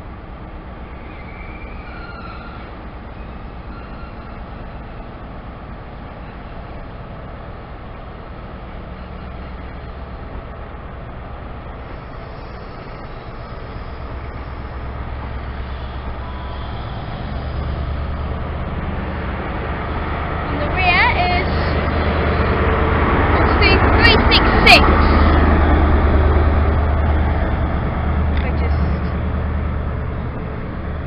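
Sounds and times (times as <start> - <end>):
low diesel engine hum: 0.0 - 31.0
train coaches rolling past: 0.0 - 31.0.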